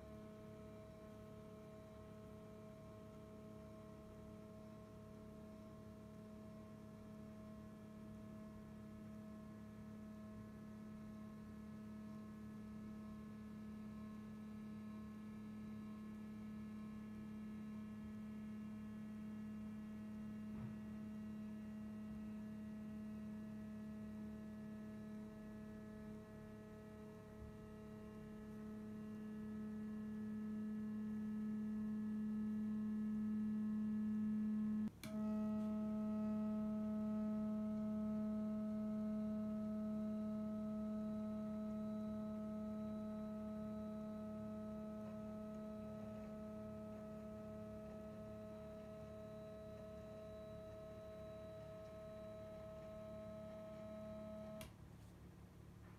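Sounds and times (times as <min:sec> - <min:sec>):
electronic hum: 0:00.0 - 0:55.8.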